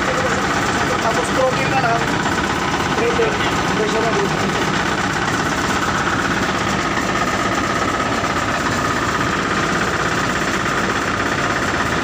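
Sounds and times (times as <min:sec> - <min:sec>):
fire truck engine running: 0:00.0 - 0:12.0.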